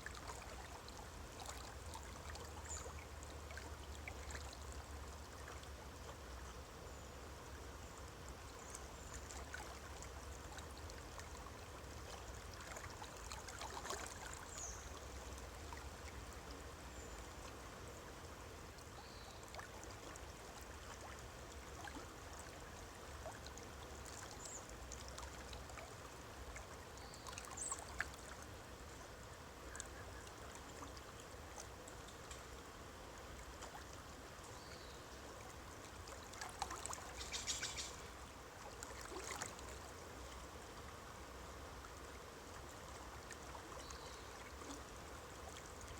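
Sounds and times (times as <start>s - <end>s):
running water stream: 0.0s - 45.9s
water splashes and trickles: 0.0s - 45.9s.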